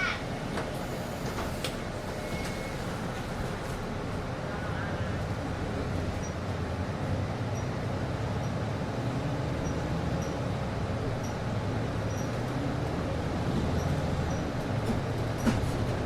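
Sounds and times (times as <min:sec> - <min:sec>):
low rumble of bus: 0:00.0 - 0:16.0.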